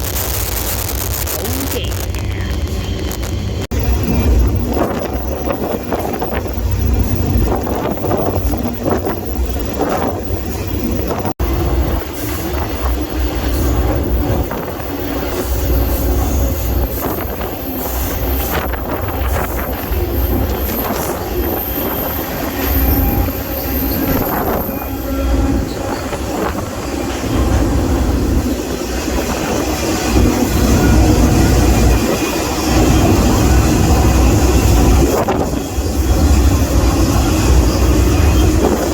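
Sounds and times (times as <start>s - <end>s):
train cars rumbling: 0.0s - 38.9s
train wheel squeal: 3.8s - 38.9s.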